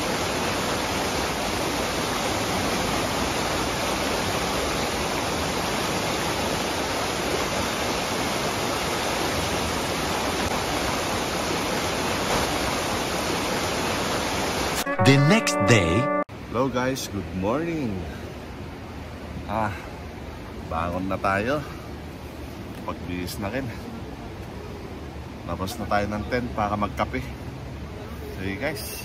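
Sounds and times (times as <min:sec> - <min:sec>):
rushing water: 0:00.0 - 0:15.0, 0:16.3 - 0:29.0.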